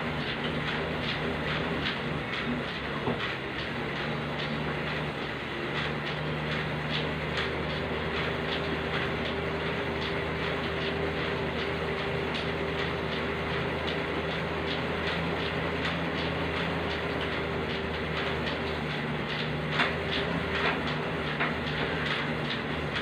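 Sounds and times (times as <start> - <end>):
elliptical trainer whirring: 0.0 - 23.0.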